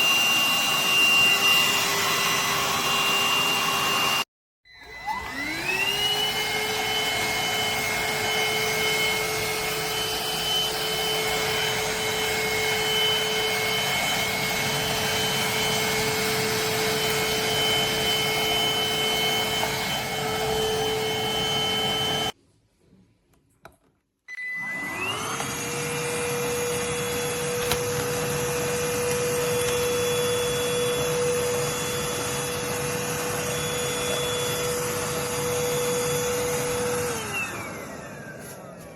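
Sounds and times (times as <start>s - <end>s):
handheld vacuum cleaner whine: 0.0s - 22.4s, 24.3s - 38.9s.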